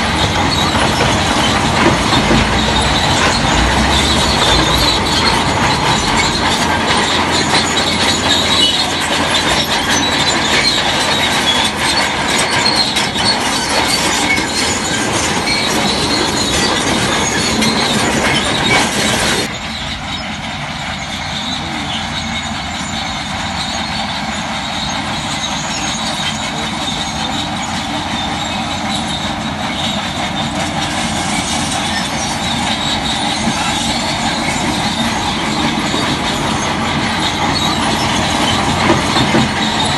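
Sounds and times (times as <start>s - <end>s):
diesel engine running: 0.0s - 39.9s
steel tracks squealing and clanking: 0.0s - 39.9s.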